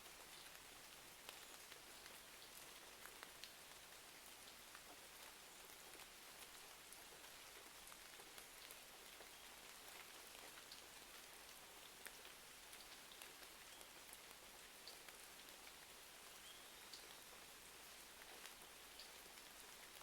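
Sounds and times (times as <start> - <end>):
faint steady rain: 0.0 - 20.0
small crackles and ticks: 0.0 - 20.0.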